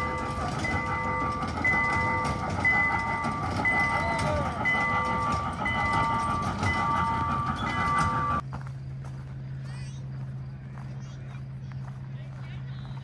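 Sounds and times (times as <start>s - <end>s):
train rolling with low rumble: 0.0s - 13.0s.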